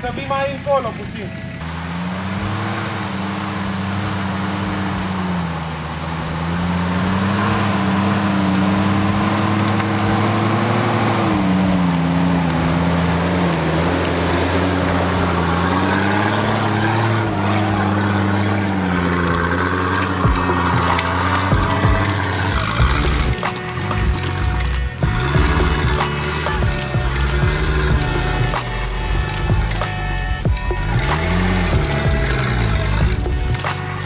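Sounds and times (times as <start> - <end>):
off-road vehicle engine revving: 0.0 - 34.0.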